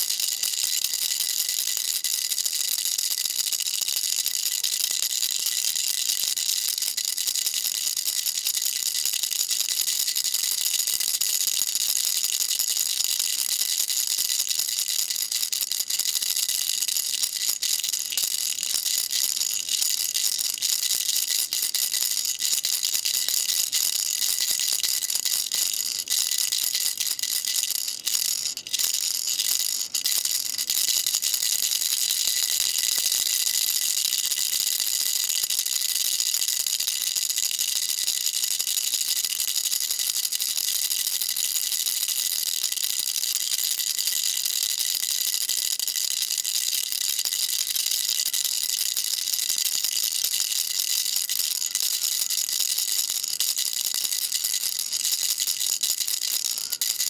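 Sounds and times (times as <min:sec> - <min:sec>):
baby rattle shaking: 0:00.0 - 0:57.0.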